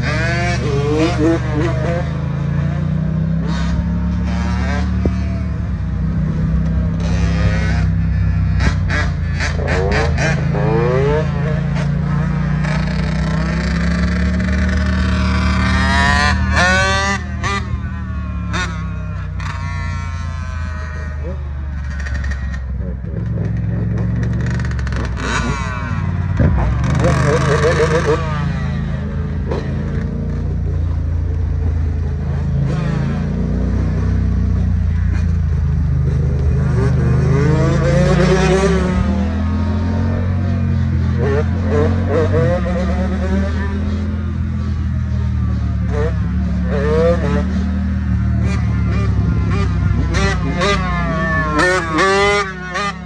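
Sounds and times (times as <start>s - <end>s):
dirt bike engine revving: 0.0s - 53.0s
low vehicle engine drone: 0.0s - 53.0s.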